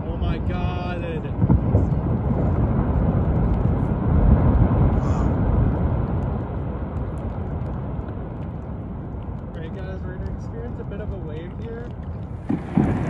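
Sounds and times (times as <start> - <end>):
glacier ice calving rumble: 0.0 - 13.0.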